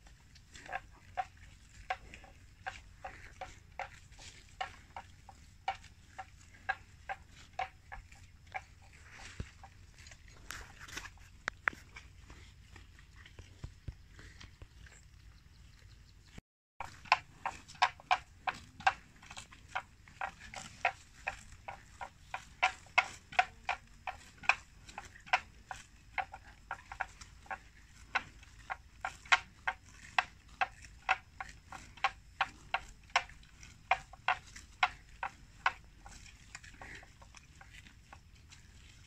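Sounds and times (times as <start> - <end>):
buffalo chewing crunchy plants: 0.0 - 39.0.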